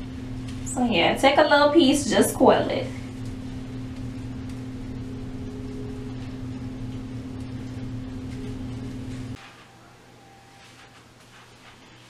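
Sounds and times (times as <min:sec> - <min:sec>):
low machine hum: 0:00.0 - 0:11.9.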